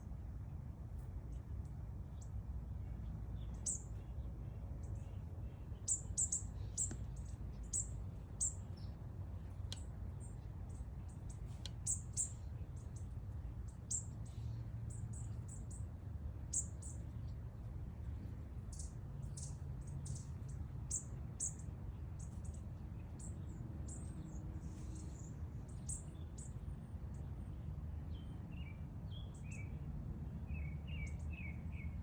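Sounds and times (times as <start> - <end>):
steady low rumble: 0.0 - 30.4
small birds chirping: 1.3 - 29.8, 30.5 - 32.0.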